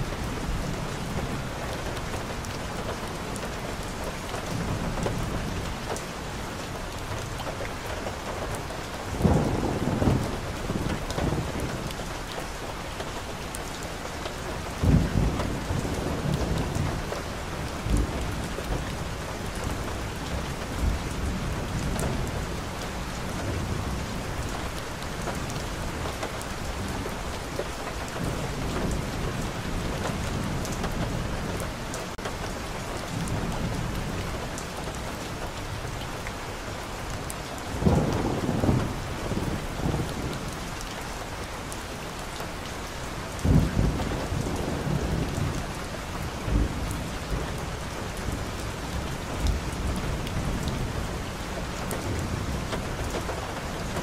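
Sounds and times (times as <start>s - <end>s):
rain on street and leaves: 0.0s - 54.0s.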